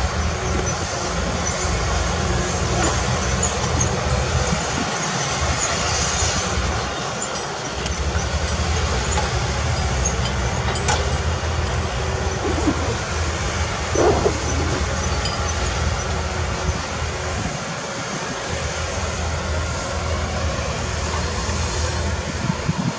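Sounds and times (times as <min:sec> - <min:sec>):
diesel machinery engine rumble: 0:00.0 - 0:22.9.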